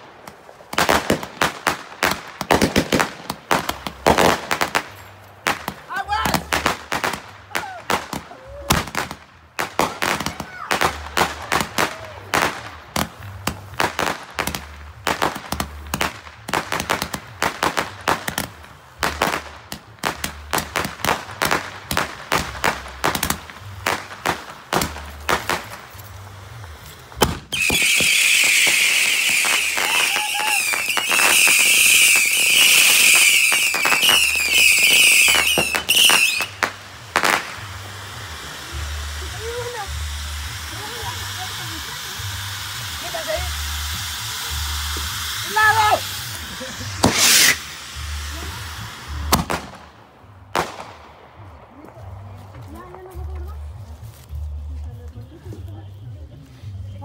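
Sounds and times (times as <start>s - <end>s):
firework bangs and pops: 0.0s - 53.9s
firework fountain hissing: 0.0s - 57.0s.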